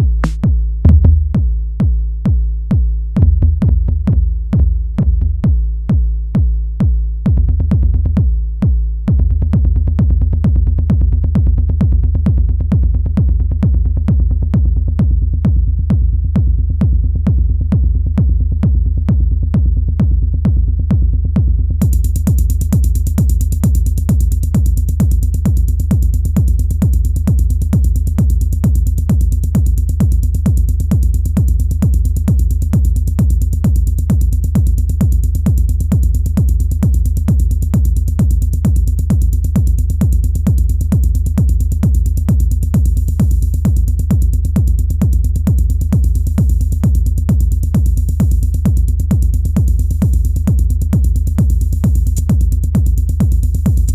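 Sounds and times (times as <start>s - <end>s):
deep bass: 0.0s - 53.9s
drum machine techno beat: 0.0s - 53.9s.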